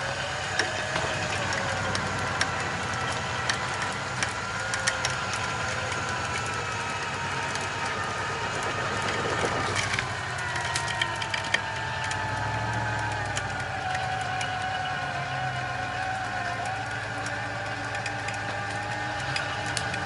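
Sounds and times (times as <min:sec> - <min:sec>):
electric winch motor whining: 0:00.0 - 0:20.0.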